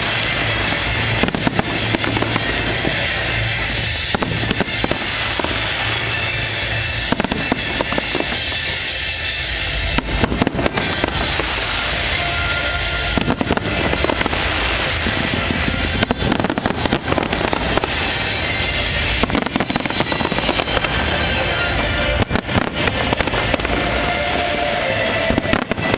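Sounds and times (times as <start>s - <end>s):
fireworks bangs and crackling: 0.0s - 25.9s
music: 0.0s - 25.9s.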